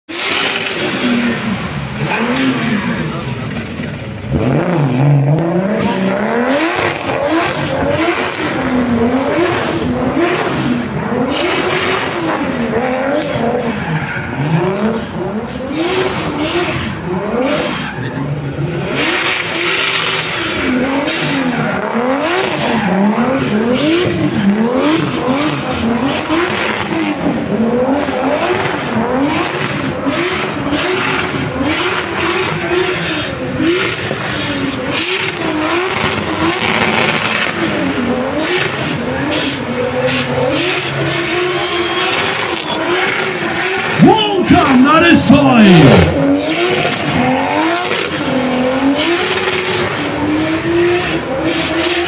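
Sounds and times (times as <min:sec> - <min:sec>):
car engine revving: 0:00.1 - 0:52.0.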